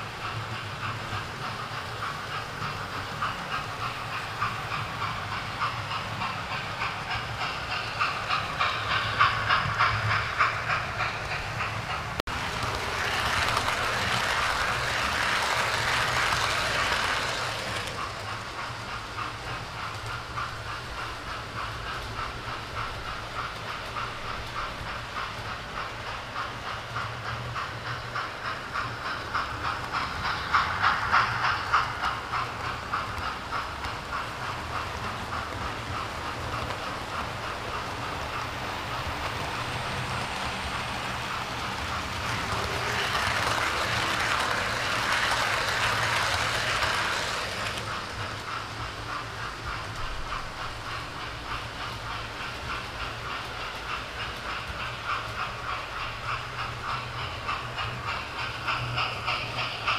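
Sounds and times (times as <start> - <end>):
model train rushing past: 0.0 - 59.9
model train wheels clicking: 0.0 - 59.9.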